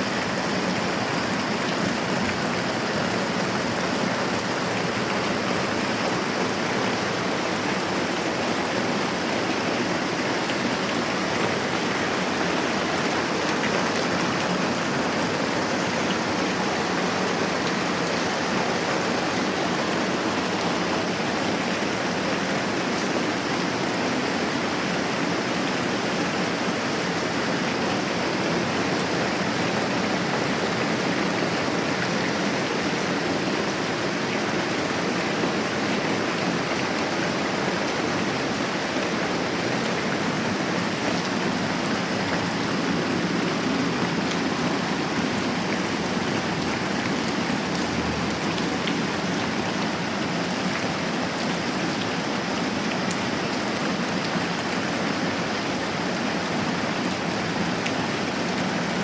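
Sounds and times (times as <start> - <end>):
moderate rain falling: 0.0 - 59.0.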